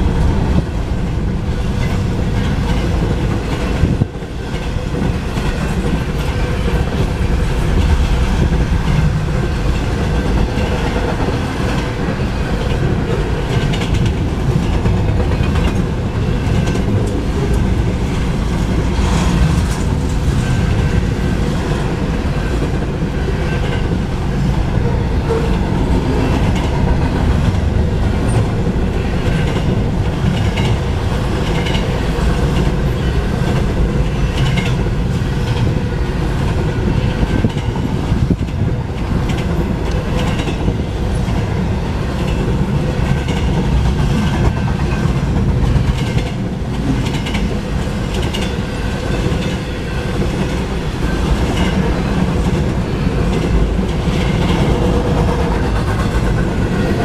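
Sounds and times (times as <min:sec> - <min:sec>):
freight cars rumbling on rails: 0:00.0 - 0:57.0.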